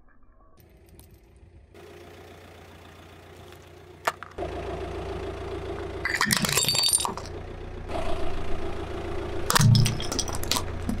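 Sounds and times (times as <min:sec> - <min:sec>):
car engine running: 0:00.6 - 0:11.0.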